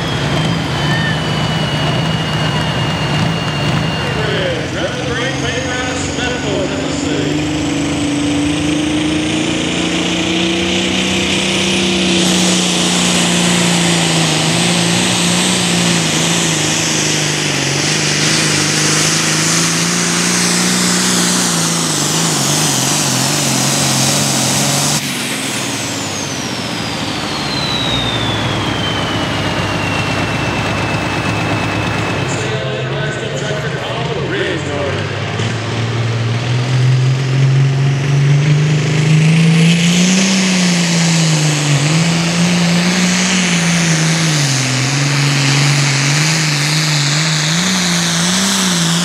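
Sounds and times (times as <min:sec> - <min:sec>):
tractor diesel engine at full power: 0:00.0 - 0:49.0
turbo whine: 0:00.0 - 0:49.0.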